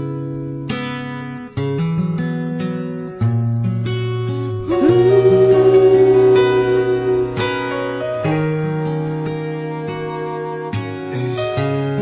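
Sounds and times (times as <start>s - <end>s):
instrumental backing track chords: 0.0s - 12.0s.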